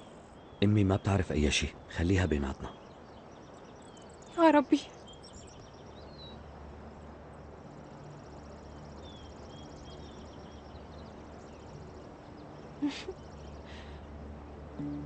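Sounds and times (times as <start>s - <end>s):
insects chirping: 0.0s - 15.0s
low steady hum: 0.0s - 15.0s.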